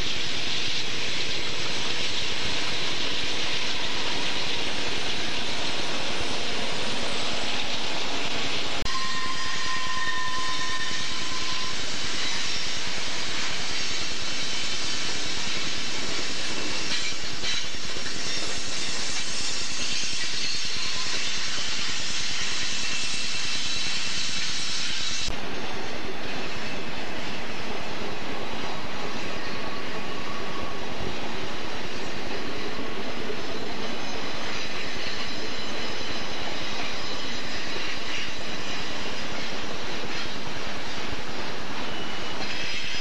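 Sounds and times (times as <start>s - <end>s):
diesel locomotive engine drone: 0.0s - 43.0s
passing train rumble: 0.0s - 43.0s.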